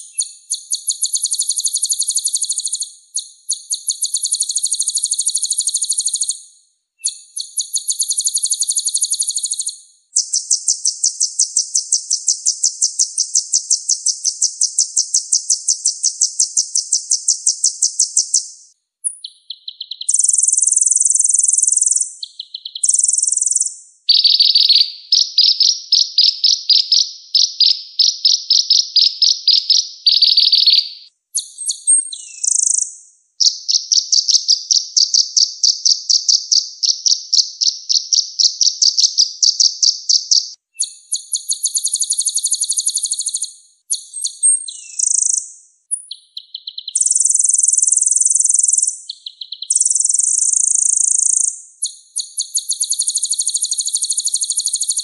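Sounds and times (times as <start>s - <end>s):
high rapid bird trills: 0.0s - 6.4s, 7.0s - 55.0s
bird chirps: 0.0s - 55.0s.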